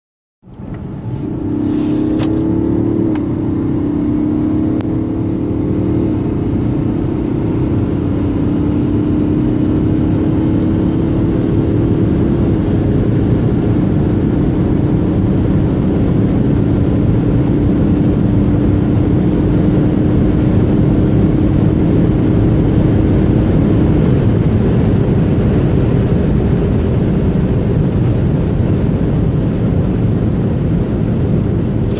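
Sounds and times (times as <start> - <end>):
diesel engine accelerating hard: 0.4 - 31.9
road and wind noise: 0.4 - 31.9.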